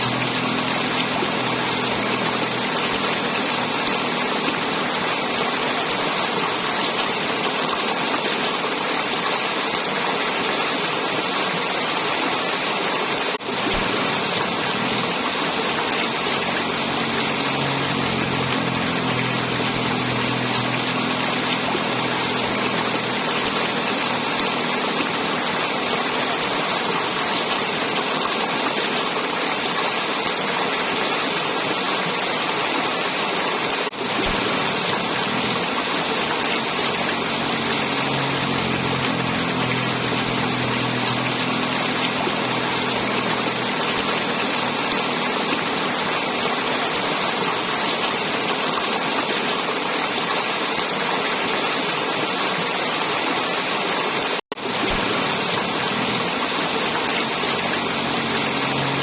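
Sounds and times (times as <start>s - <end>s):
river water flowing and gurgling: 0.0s - 59.0s.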